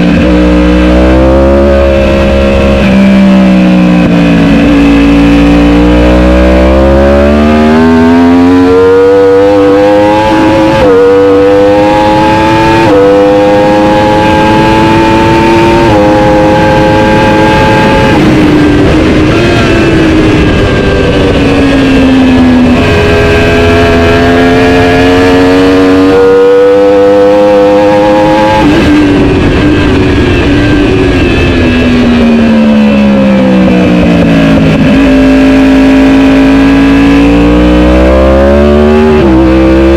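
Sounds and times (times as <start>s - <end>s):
superbike engine at full throttle: 0.0s - 39.9s.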